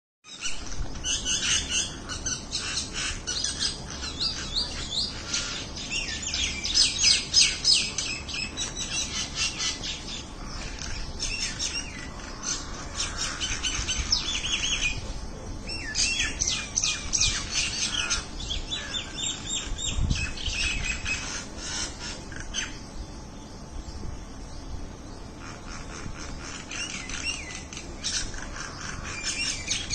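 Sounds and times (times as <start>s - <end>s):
small birds chirping: 0.2s - 29.9s.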